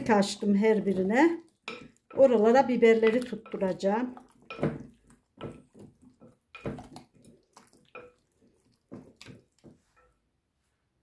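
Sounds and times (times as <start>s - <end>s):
wet squelching of chicken stirred: 0.0s - 10.3s.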